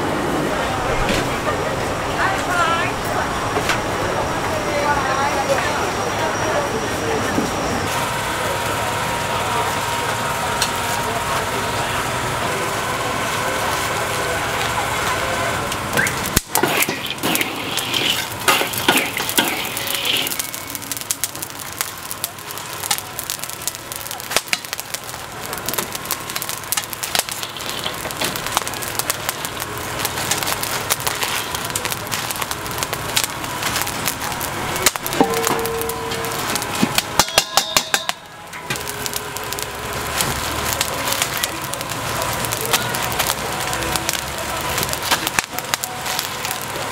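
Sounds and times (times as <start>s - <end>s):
crackling hiss of cooking: 0.0s - 46.9s.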